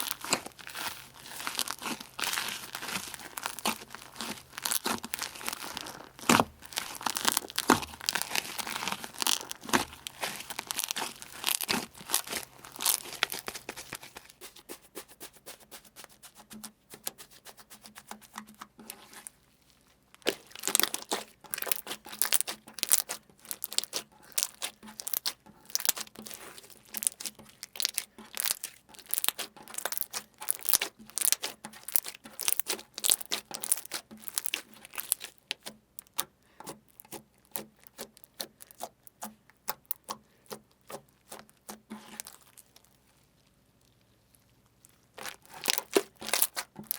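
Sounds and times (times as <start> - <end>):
crunchy slime crackling: 0.0 - 15.2, 15.8 - 46.9.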